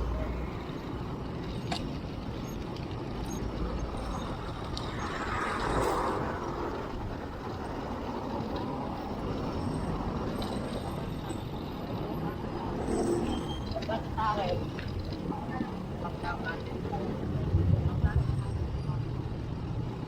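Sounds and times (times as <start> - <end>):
traffic road noise: 0.0 - 20.0
wind rumble on microphone: 2.0 - 20.0.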